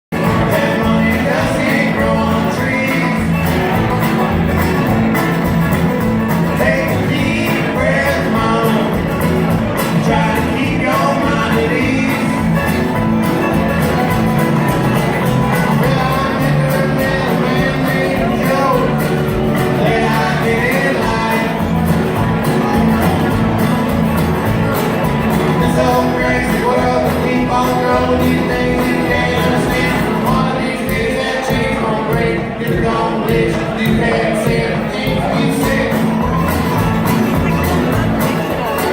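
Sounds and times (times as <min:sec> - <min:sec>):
person singing: 0:00.1 - 0:23.7, 0:24.7 - 0:38.9
band playing loud rock song: 0:00.1 - 0:38.9.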